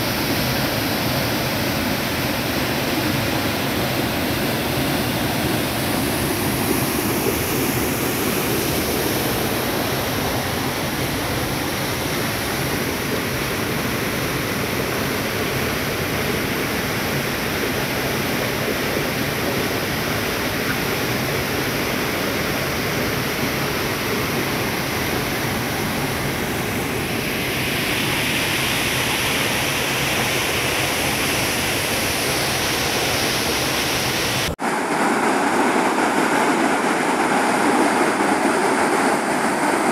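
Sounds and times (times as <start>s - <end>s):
water rushing down spillway: 0.0s - 39.9s.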